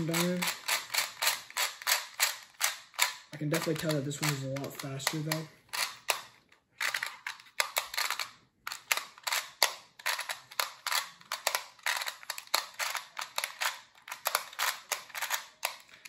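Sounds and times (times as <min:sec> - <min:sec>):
plastic puzzle clicks: 0:00.0 - 0:16.0.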